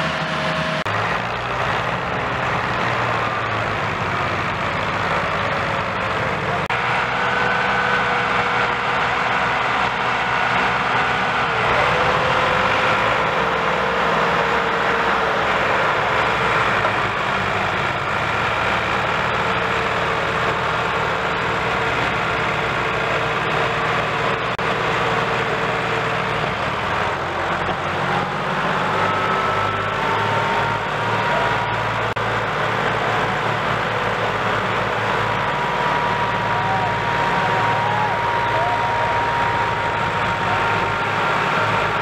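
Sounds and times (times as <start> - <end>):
tractor engines labouring: 0.0 - 42.0.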